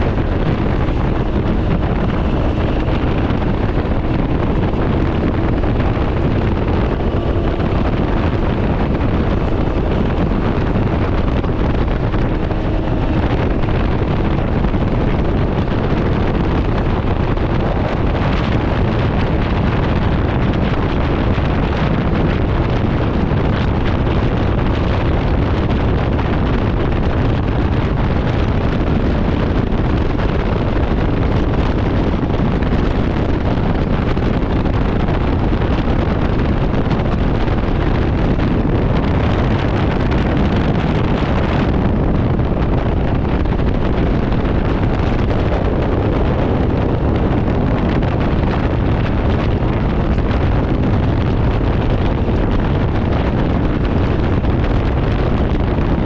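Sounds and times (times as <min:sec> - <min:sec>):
engine and road noise: 0:00.0 - 0:56.0
wind rush on microphone: 0:00.0 - 0:56.0.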